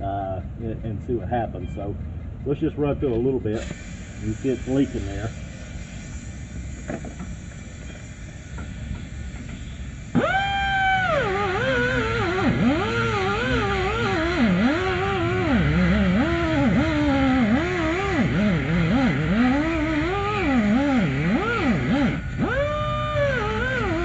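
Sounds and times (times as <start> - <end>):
air hissing: 3.5 - 24.0
air grinder grinding steel: 3.6 - 24.0.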